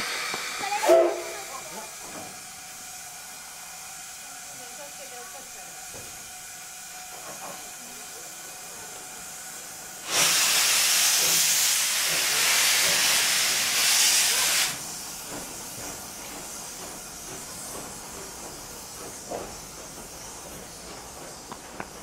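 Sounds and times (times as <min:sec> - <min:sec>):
steam locomotive hissing steam: 0:00.0 - 0:22.0.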